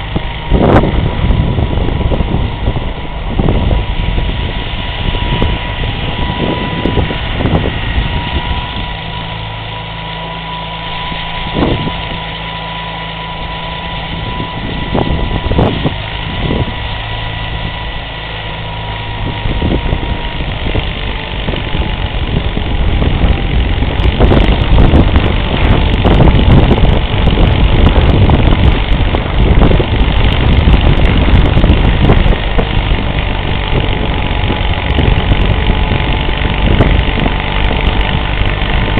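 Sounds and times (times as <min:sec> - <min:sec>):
thin whine: 0:00.0 - 0:38.9
tractor engine running: 0:00.0 - 0:38.9.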